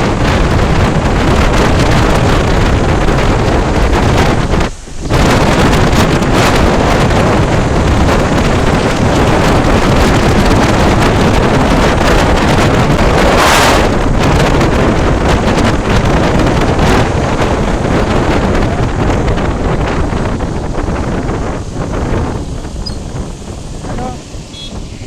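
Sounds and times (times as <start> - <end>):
rain and road spray hiss: 0.0 - 25.0
wind buffeting microphone: 0.0 - 25.0.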